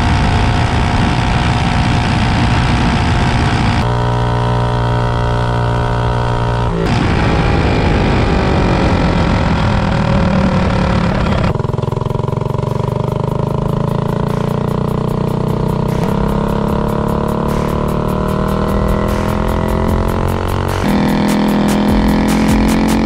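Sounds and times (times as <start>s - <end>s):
minibike engine accelerating: 0.0s - 23.0s
road and wind noise: 0.0s - 23.0s.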